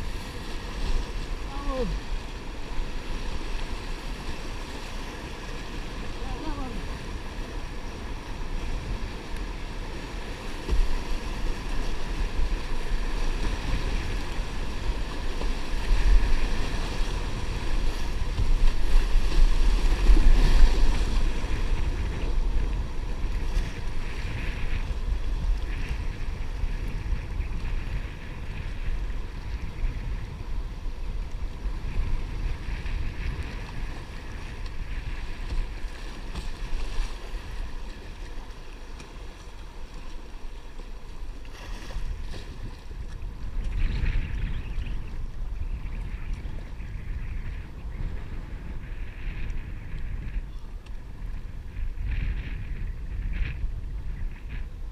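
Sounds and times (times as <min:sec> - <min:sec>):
water washing around a kayak: 0:00.0 - 0:54.9
wind rumbling on microphone: 0:00.0 - 0:54.9.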